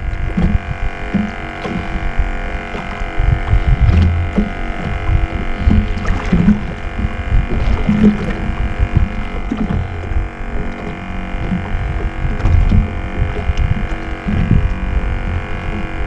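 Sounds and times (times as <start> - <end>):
drone of held tones: 0.0 - 16.0
low thumps and knocks: 0.0 - 16.0.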